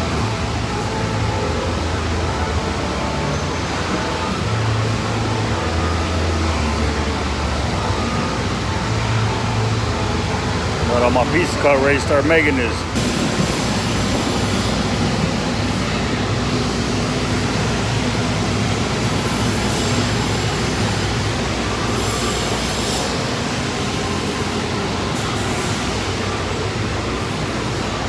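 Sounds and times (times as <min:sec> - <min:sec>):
industrial machinery rumble: 0:00.0 - 0:28.0.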